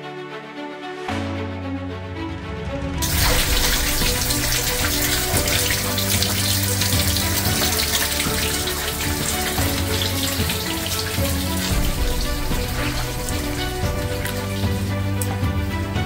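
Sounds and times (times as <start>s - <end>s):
background music: 0.0s - 16.0s
water splashing onto concrete: 3.0s - 16.0s.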